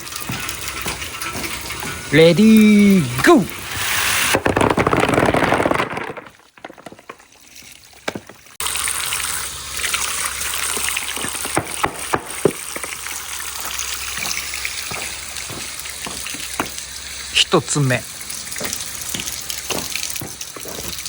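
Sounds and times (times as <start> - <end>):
water rushing down track: 0.0 - 5.7, 7.0 - 21.0.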